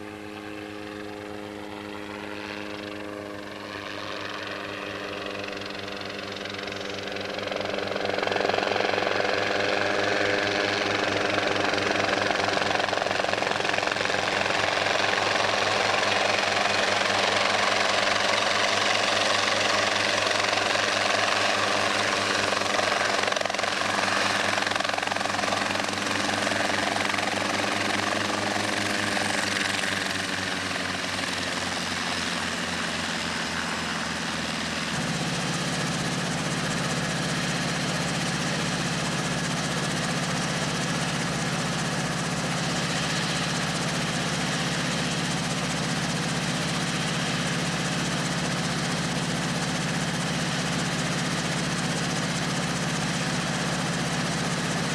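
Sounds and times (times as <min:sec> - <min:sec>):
helicopter engine and rotor: 0:00.0 - 0:54.9.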